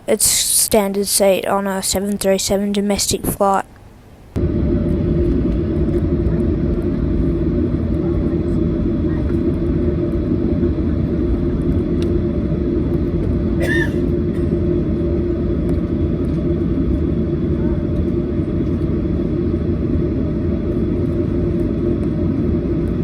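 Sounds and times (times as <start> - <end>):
airplane cabin engine drone: 4.2 - 23.0.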